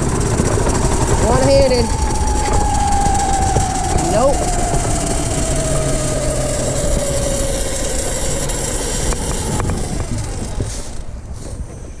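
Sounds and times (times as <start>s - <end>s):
mini bike engine dying: 0.0s - 12.0s
wind noise on microphone: 0.0s - 12.0s.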